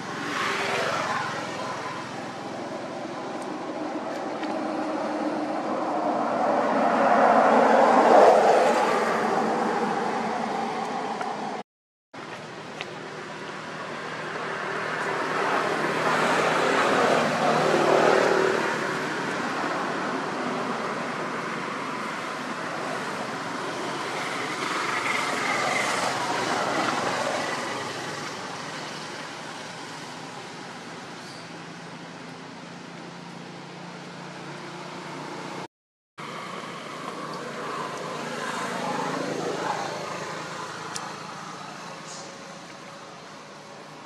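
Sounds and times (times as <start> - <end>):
distant road traffic: 0.0 - 11.6, 12.2 - 44.0
vehicles passing: 0.0 - 11.6, 12.2 - 44.0.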